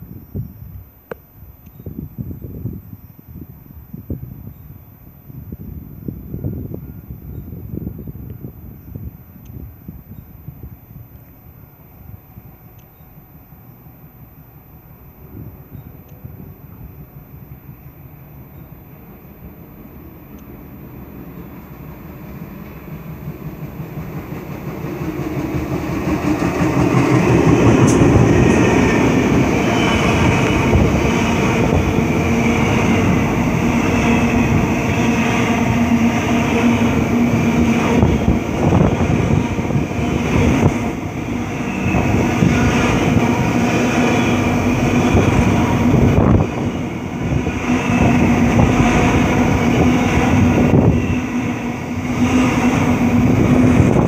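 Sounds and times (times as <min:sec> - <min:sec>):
diesel locomotive passing: 0:00.0 - 0:54.0.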